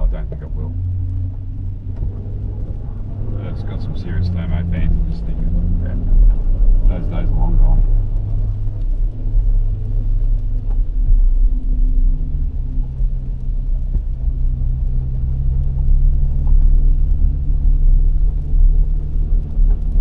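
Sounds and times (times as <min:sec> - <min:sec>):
low hums shifting in pitch: 0:00.0 - 0:19.4
vehicle cabin rumble: 0:00.0 - 0:20.0.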